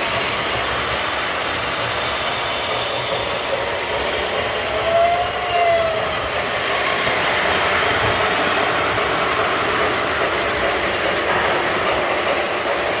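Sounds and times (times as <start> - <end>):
model train wheels rumbling: 0.0 - 13.0.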